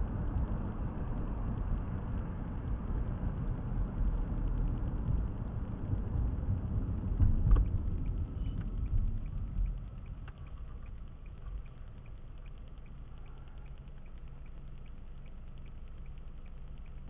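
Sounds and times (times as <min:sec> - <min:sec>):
faint light ticking: 0:00.0 - 0:17.0
road and engine rumble: 0:00.0 - 0:17.0.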